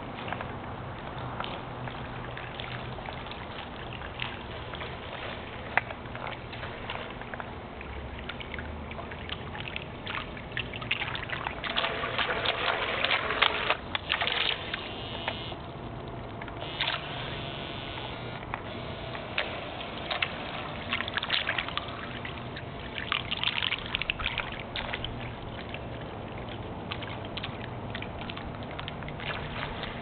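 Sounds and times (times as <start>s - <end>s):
rc boat splashing across water: 0.0s - 30.0s.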